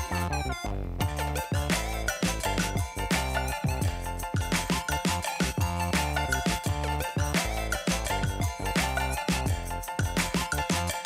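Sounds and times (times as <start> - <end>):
music with drums and bass: 0.0 - 11.0.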